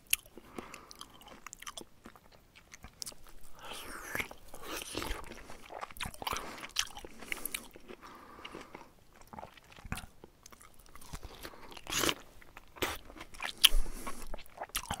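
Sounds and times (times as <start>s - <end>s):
bear chewing and crunching food: 0.2s - 15.0s.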